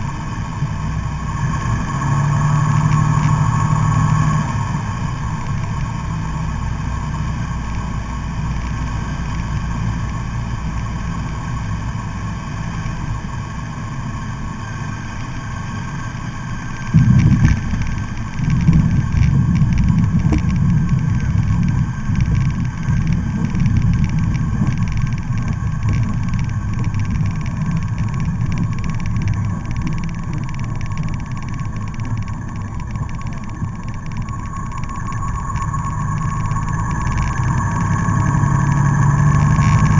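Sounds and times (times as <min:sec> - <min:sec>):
light aircraft engine running: 0:00.0 - 0:39.9.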